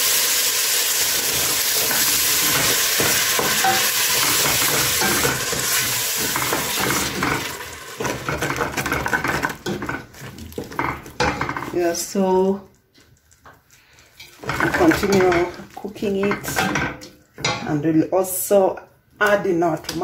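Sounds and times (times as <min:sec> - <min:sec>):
tomatoes sizzling in a pot: 0:00.0 - 0:12.7, 0:14.1 - 0:18.6
wooden spoon scraping a pot: 0:01.0 - 0:17.8.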